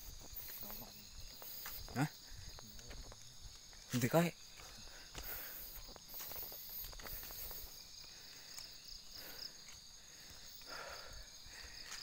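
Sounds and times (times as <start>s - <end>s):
footsteps on dirt path: 0.0s - 12.0s
insects chorus: 0.0s - 12.0s.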